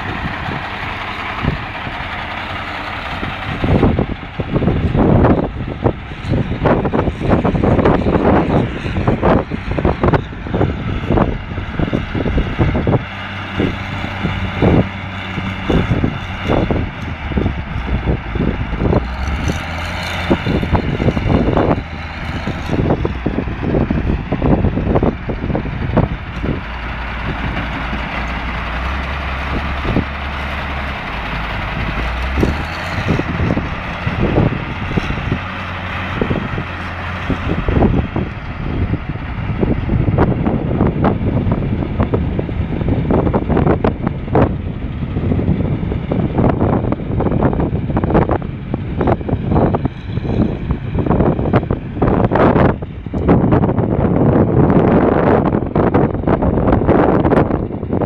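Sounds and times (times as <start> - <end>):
heavy diesel engines running: 0.0 - 58.0
wind buffeting microphone: 0.0 - 58.0.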